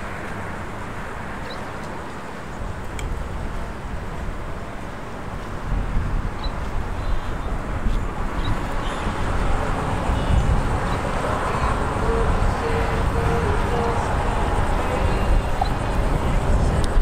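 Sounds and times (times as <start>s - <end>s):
outdoor background noise: 0.0s - 17.0s
wind buffeting microphone: 0.0s - 17.0s.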